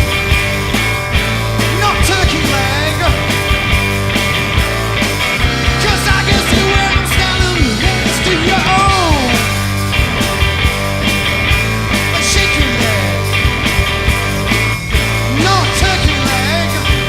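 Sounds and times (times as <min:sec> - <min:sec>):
regular drum beat: 0:00.0 - 0:17.0
rock band playing: 0:00.0 - 0:17.0
lead guitar line bending in pitch: 0:00.1 - 0:17.0.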